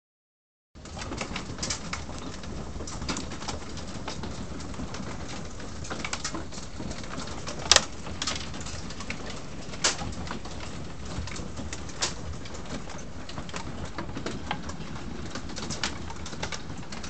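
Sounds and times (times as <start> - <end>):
hailstones pattering on wood: 0.8 - 17.0.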